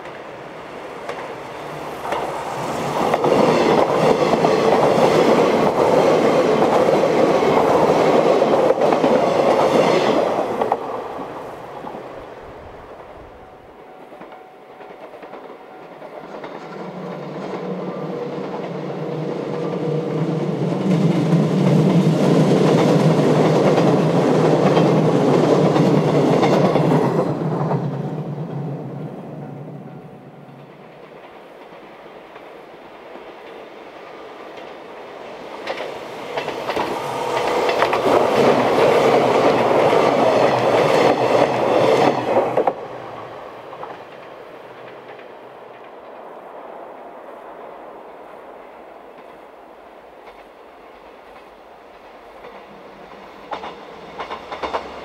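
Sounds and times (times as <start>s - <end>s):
electric train wheels clattering: 0.9s - 12.1s, 12.8s - 46.2s, 50.2s - 55.0s.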